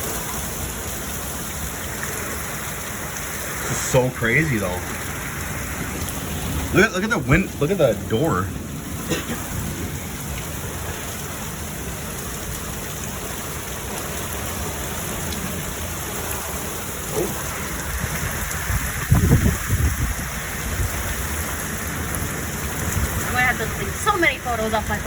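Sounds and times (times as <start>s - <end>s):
heavy rain pouring: 0.0s - 25.0s
thunder rumble: 1.6s - 25.0s.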